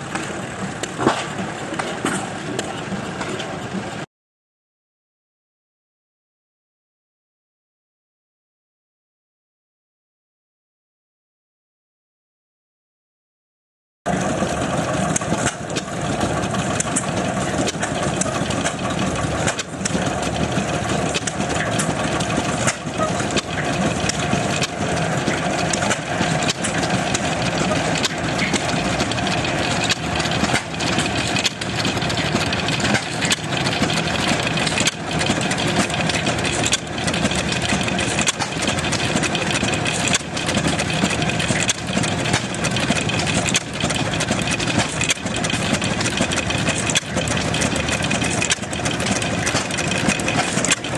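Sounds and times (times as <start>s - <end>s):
engine running steadily: 0.0s - 4.1s, 14.1s - 50.9s.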